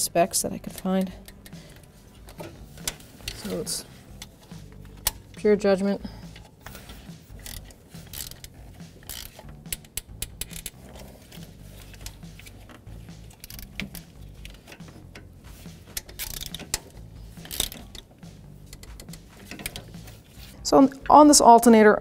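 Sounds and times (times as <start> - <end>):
metal rattles: 0.5 - 21.2.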